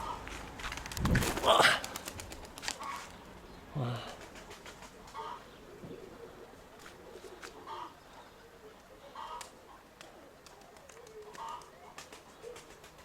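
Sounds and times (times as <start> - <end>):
pigeons calling: 0.0 - 13.0.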